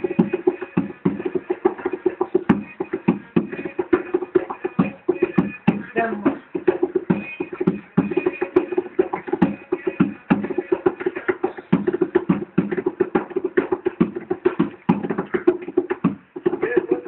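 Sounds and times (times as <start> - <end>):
goblet drum fast rhythm: 0.0 - 17.0.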